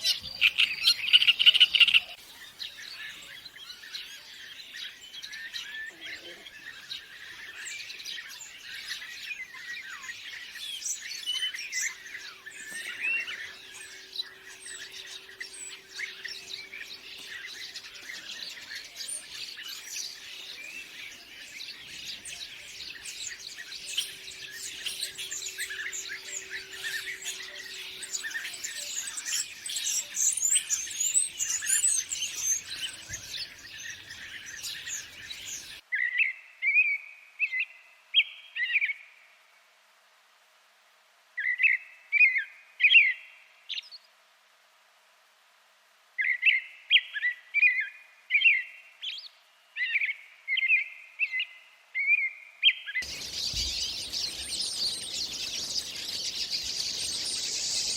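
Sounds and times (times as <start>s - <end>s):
songbirds chirping and twittering: 0.0s - 57.9s.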